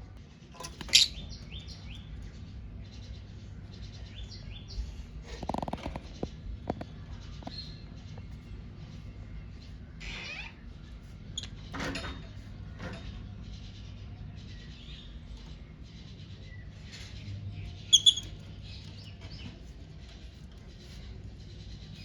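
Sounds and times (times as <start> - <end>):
lovebirds chattering: 0.6 - 22.0.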